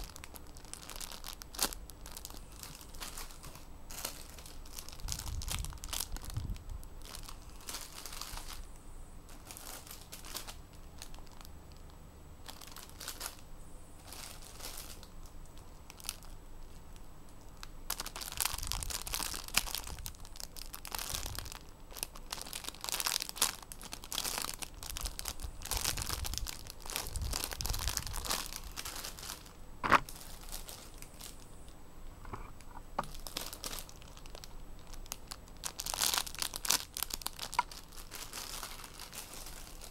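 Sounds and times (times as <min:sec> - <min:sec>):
plastic packaging crinkling: 0:00.0 - 0:31.5, 0:33.0 - 0:39.9.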